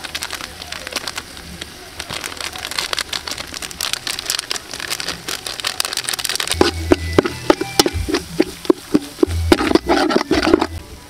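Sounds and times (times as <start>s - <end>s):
paste sizzling in hot oil: 0.0s - 10.8s.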